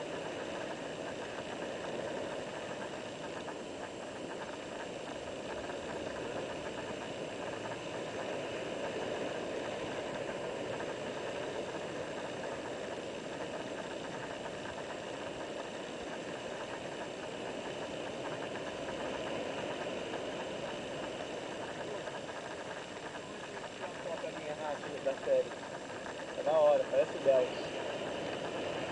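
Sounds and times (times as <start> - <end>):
surf rushing over rocks: 0.0 - 28.9.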